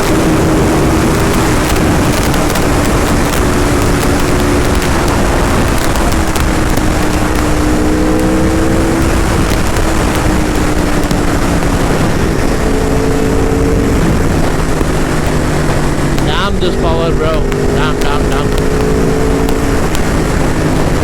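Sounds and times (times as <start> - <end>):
motorcycle engine at high speed: 0.0 - 21.0
wind rushing on microphone: 0.0 - 21.0.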